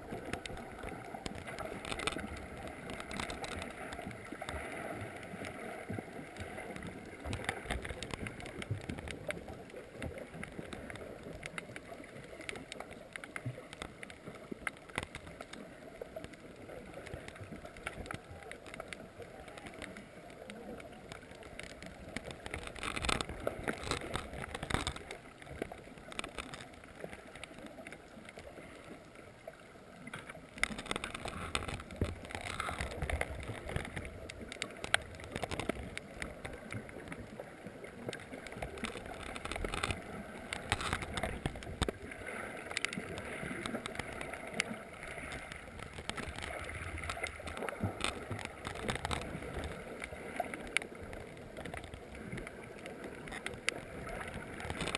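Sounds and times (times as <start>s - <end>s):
muffled underwater water wash: 0.0s - 54.9s
underwater clicks and crackles: 0.0s - 54.9s.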